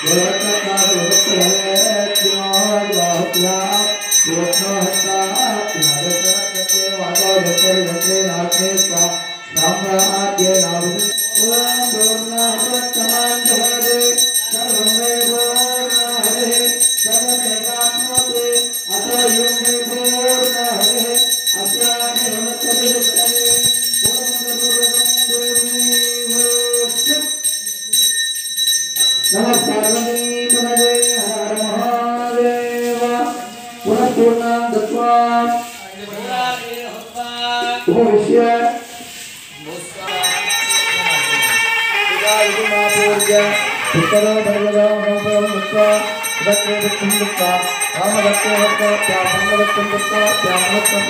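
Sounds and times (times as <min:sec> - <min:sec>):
group devotional singing: 0:00.0 - 0:27.2, 0:29.3 - 0:51.0
thin high tone: 0:00.0 - 0:38.0, 0:38.8 - 0:51.0.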